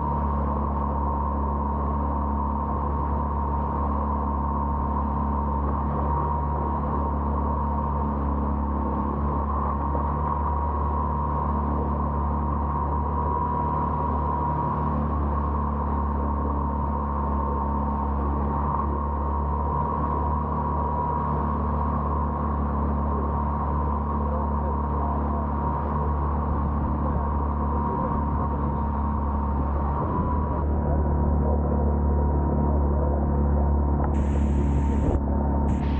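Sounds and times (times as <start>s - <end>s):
boat engine droning: 0.0s - 35.9s
steady high whine: 0.0s - 35.9s.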